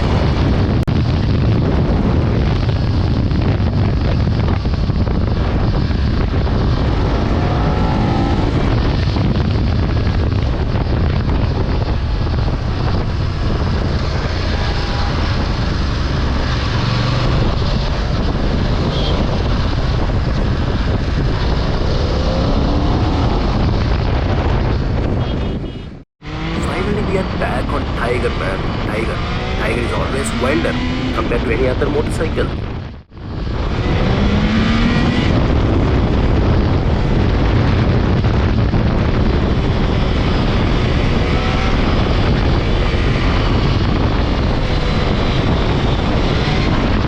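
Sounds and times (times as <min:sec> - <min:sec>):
wind noise on microphone: 0:00.0 - 0:31.6, 0:32.4 - 0:47.0.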